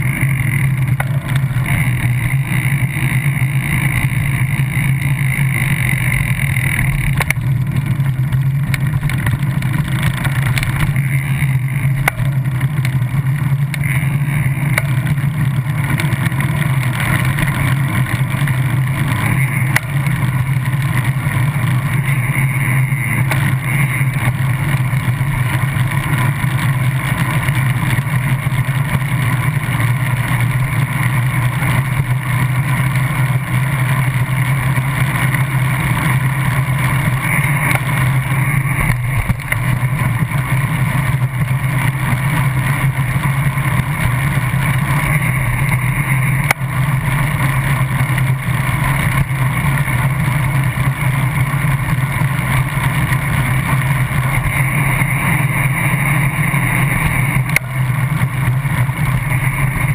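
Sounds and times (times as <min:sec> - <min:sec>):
bicycle tyre road noise: 0:00.0 - 0:59.9
strong low hum: 0:00.0 - 0:59.9.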